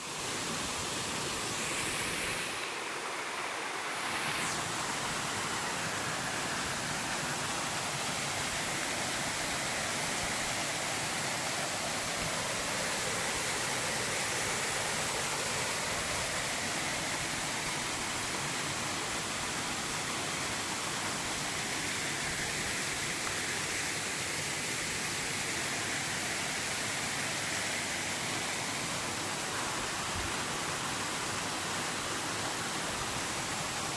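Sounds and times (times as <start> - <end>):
waterfall and river rushing: 0.0 - 33.9.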